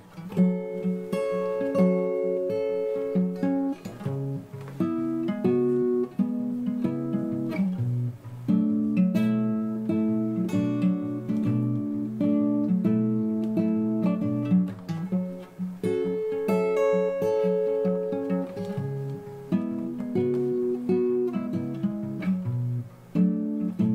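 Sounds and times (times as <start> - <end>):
acoustic guitar playing: 0.0 - 23.9.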